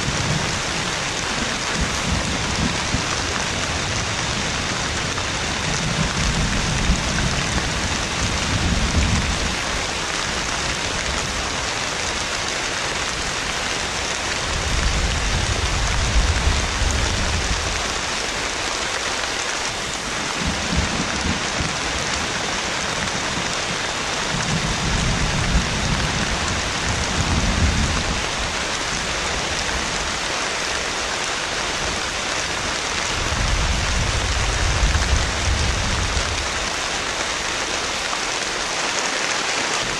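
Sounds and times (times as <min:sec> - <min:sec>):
thunder rumbling: 0:00.0 - 0:18.7, 0:19.6 - 0:30.2, 0:31.8 - 0:37.5
heavy rain falling: 0:00.0 - 0:39.9.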